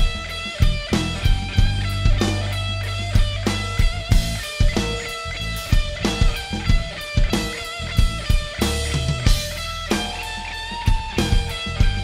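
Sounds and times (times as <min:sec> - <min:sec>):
bass guitar: 0:00.0 - 0:12.0
drum kit beat: 0:00.0 - 0:12.0
electric guitar: 0:00.0 - 0:12.0.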